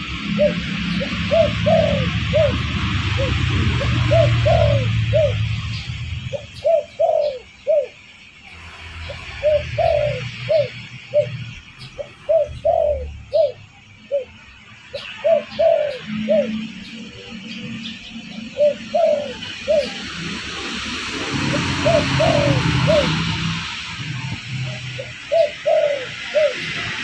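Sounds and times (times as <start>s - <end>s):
dove cooing: 0.0s - 8.0s, 9.0s - 27.0s.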